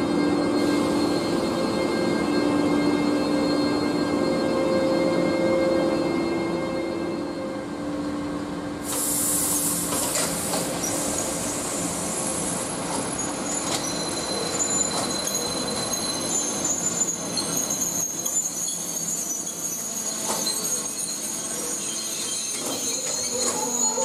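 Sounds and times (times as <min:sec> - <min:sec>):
train wheels squealing: 0:00.0 - 0:08.0, 0:08.9 - 0:24.0.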